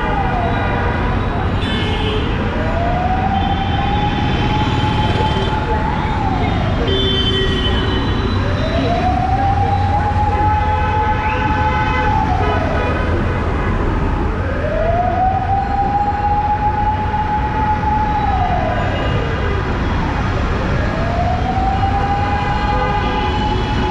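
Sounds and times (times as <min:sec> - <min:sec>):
street traffic rumble: 0:00.0 - 0:23.9
siren wailing: 0:02.5 - 0:13.0, 0:14.4 - 0:23.9.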